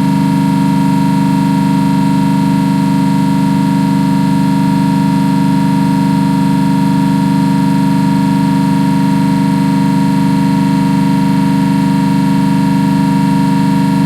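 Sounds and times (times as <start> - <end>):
refrigeration compressor humming: 0.0 - 14.0.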